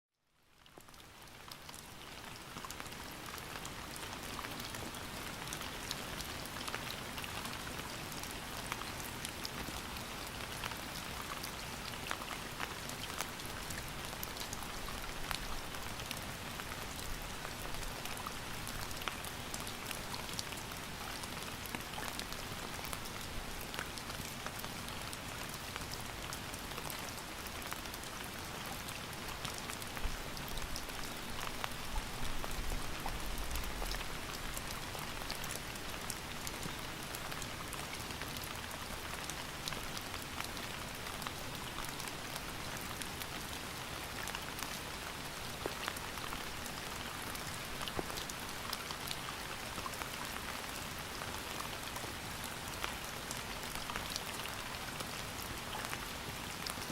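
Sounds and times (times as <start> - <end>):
steady rain falling: 0.1 - 56.9.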